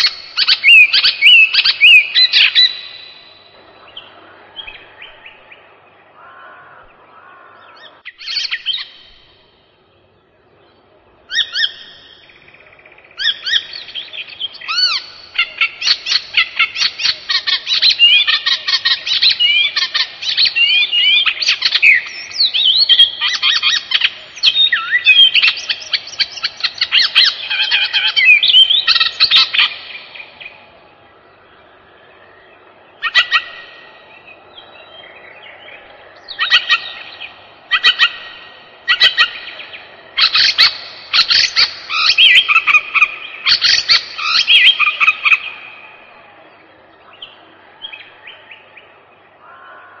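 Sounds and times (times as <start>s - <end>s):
songbird chirping and trilling: 0.0s - 50.0s.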